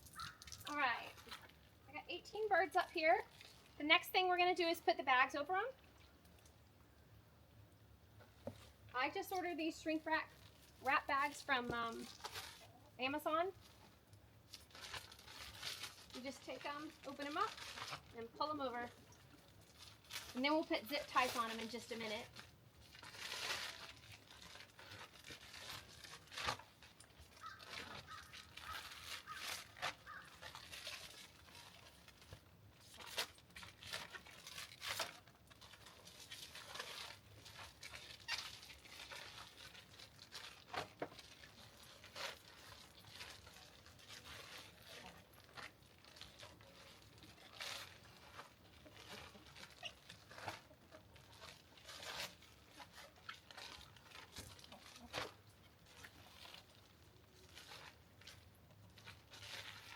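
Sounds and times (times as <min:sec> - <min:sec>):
plastic bags crinkling: 0:08.4 - 0:59.9.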